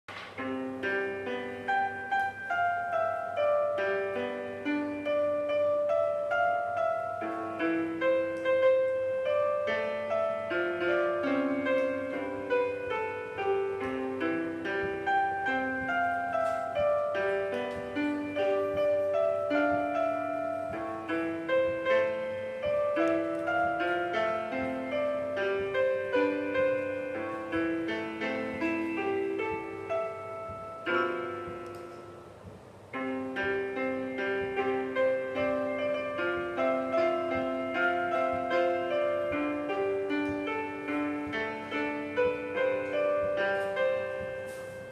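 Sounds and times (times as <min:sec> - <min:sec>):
electronic piano tune: 0:00.0 - 0:44.9.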